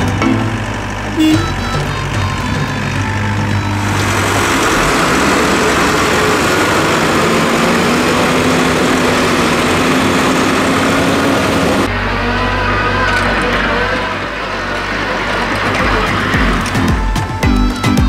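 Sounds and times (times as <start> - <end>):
truck diesel engine pulling away: 0.0 - 18.0.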